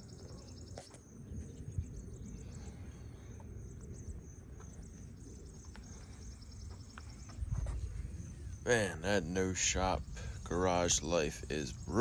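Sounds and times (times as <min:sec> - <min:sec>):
insects chirping: 0:00.0 - 0:12.0
low outdoor rumble: 0:00.0 - 0:12.0.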